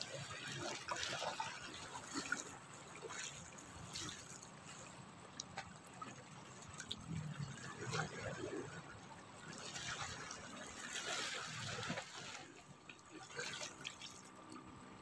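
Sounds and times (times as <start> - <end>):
sea waves lapping against rocks: 0.0 - 15.0
small water splashes: 0.0 - 15.0.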